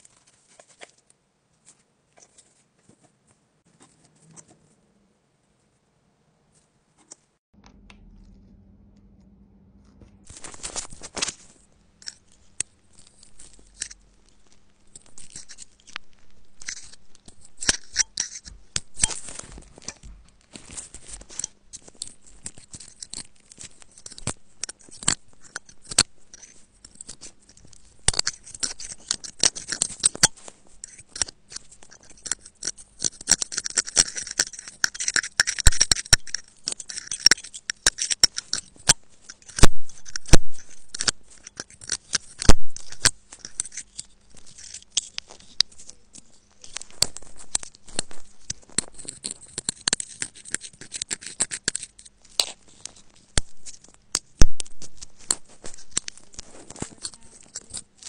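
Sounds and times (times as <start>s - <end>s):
metal pick scraping: 9.9s - 58.0s.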